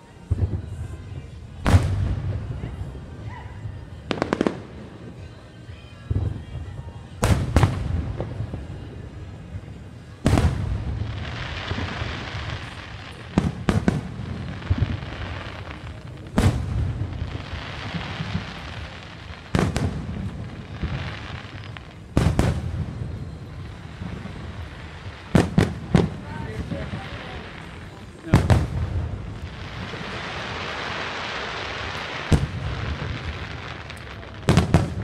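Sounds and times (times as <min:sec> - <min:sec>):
fireworks crackle: 0:00.0 - 0:35.0
fireworks booming: 0:00.2 - 0:05.0, 0:06.1 - 0:09.3, 0:10.0 - 0:35.0.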